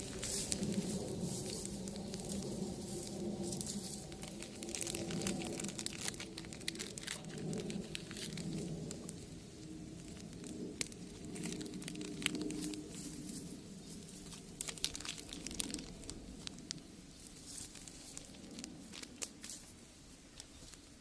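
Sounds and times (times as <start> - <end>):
low rumble of burning fire: 0.0 - 21.0
wood fire crackling: 0.0 - 21.0.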